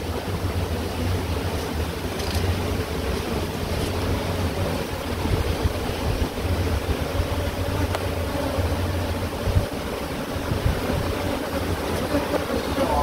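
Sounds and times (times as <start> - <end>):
honeybee colony humming: 0.0 - 13.0
wind buffeting microphone: 2.6 - 13.0.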